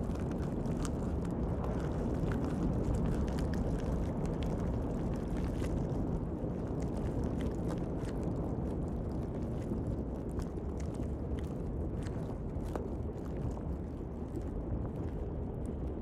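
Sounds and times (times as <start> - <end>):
low underwater rumble: 0.0 - 16.0.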